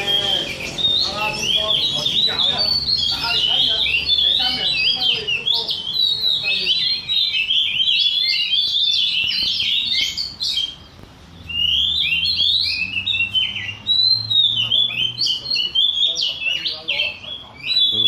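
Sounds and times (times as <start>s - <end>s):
birds singing whistled phrases: 0.0s - 18.0s.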